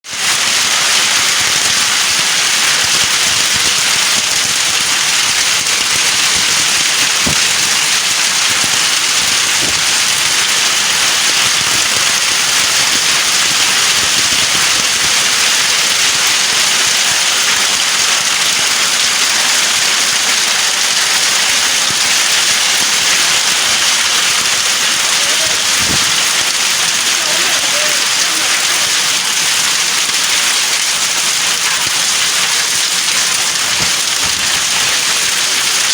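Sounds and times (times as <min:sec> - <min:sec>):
hailstones pattering on surfaces: 0:00.1 - 0:35.9.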